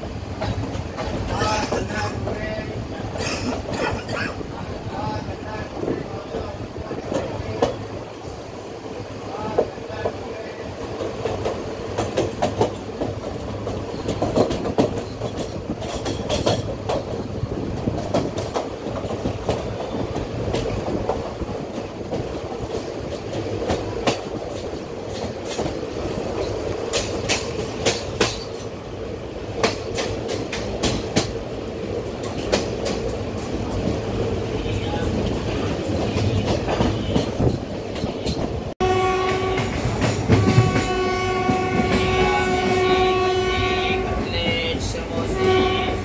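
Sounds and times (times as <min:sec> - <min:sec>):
wheels clacking over rail joints: 0:00.0 - 0:08.0, 0:09.2 - 0:46.0
train wheels rumbling on rail: 0:00.0 - 0:46.0.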